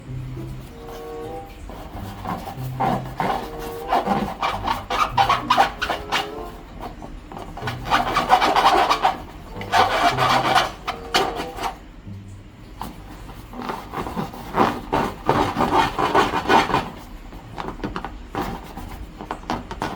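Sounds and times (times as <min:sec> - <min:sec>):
squeaky rubbing of balloons: 0:00.0 - 0:11.9, 0:12.8 - 0:19.9.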